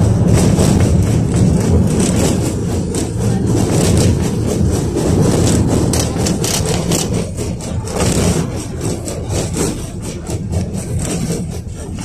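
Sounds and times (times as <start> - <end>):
rattling and scraping clicks: 0.0 - 12.0
tram wheels rumbling: 0.0 - 12.0.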